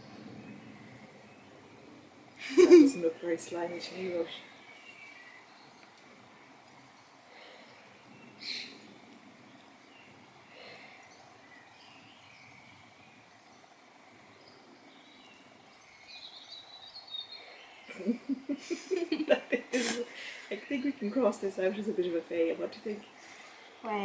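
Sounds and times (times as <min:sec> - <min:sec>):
bird chirp: 0:00.0 - 0:24.0
faint outdoor background: 0:00.0 - 0:24.0.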